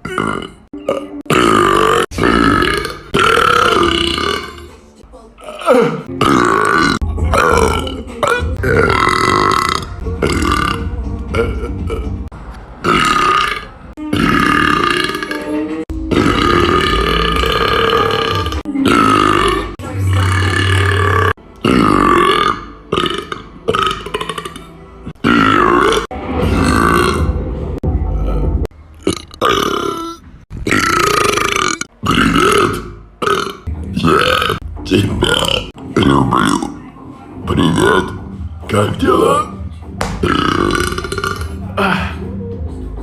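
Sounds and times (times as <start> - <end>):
loud drawn-out burps: 0.0 - 4.7, 5.4 - 27.4, 28.2 - 34.6, 35.2 - 36.8, 40.1 - 42.1.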